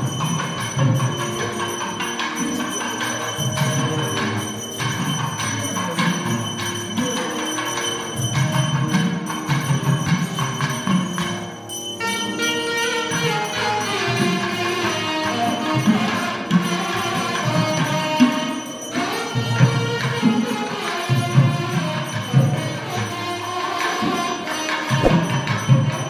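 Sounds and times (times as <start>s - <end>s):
bell struck rhythmically: 0.0s - 26.0s.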